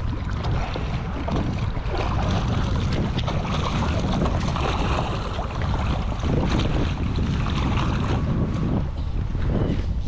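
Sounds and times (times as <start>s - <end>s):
choppy water slapping: 0.0s - 10.0s
wind buffeting microphone: 0.0s - 10.0s.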